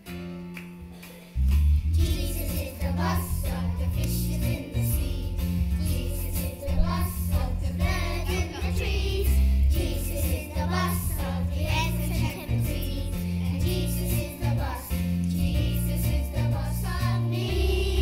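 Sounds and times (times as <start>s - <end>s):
instrumental accompaniment with bass: 0.0s - 18.0s
children's choir singing: 2.0s - 18.0s.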